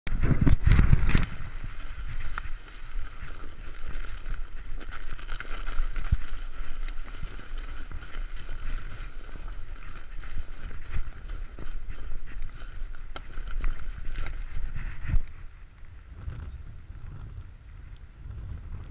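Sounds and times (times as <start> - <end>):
tyres crunching through snow: 0.1 - 15.7
wind rumbling on microphone: 0.1 - 18.9.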